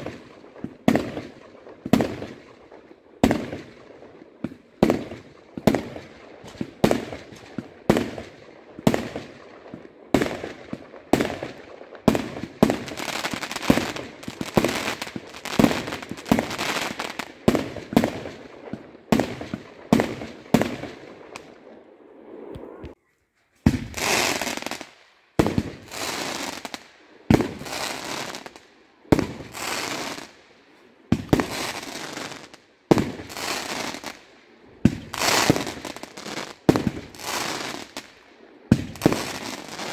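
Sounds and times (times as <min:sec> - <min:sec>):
fireworks bangs: 0:00.0 - 0:23.0, 0:23.6 - 0:30.4, 0:31.1 - 0:34.2, 0:34.8 - 0:38.1, 0:38.7 - 0:39.9
fireworks crackling: 0:00.0 - 0:39.9.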